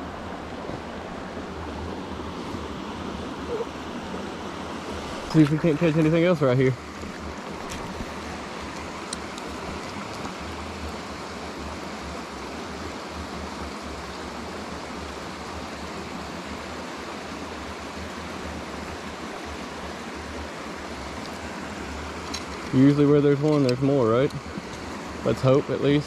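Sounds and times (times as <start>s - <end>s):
river flowing over rocks: 0.0s - 26.0s.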